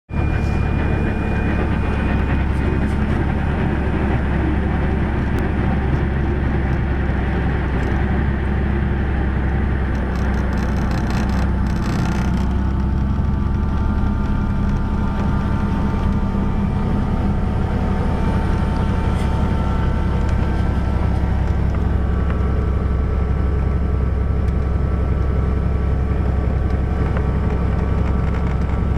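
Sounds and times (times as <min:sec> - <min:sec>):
helicopter rotor and engine drone: 0:00.1 - 0:28.9.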